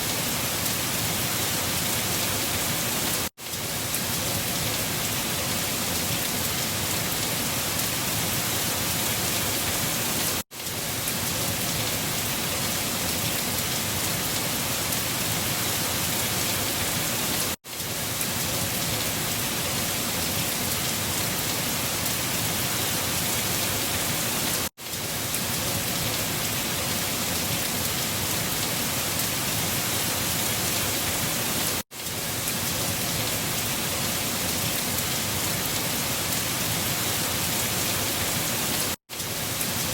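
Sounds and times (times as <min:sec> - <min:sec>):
rain: 0:00.0 - 0:39.9
wind: 0:00.0 - 0:39.9.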